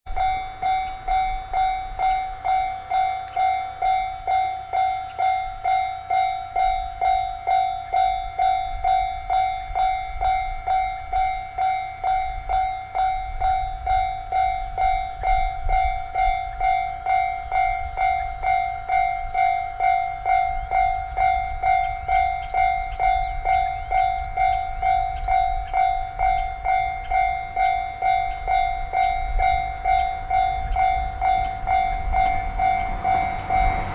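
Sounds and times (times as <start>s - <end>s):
level-crossing warning bell: 0.1s - 33.9s.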